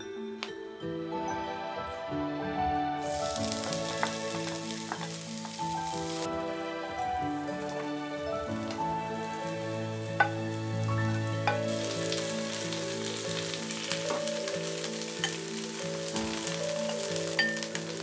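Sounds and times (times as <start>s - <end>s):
soft background music: 0.0s - 18.0s
food sizzling in a pan: 3.0s - 18.0s.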